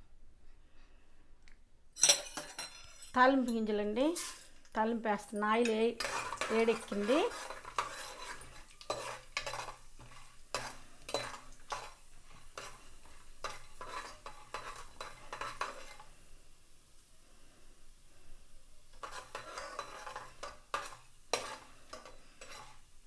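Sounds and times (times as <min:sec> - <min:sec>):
metal spoon scraping a pan: 0:02.0 - 0:16.4, 0:18.2 - 0:23.0
seeds sizzling in hot oil: 0:03.3 - 0:23.0.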